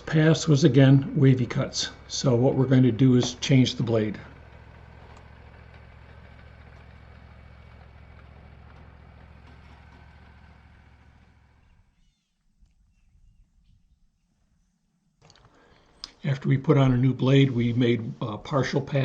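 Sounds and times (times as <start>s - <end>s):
sawmill engine idling: 0.0s - 12.2s, 15.4s - 19.0s.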